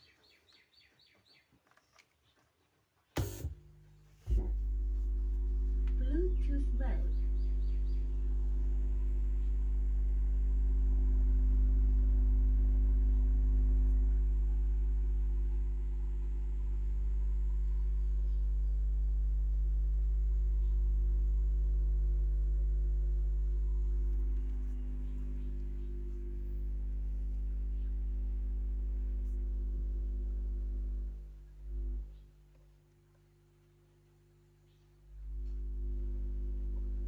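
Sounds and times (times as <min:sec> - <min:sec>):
subwoofer electrical hum: 0:03.1 - 0:37.0.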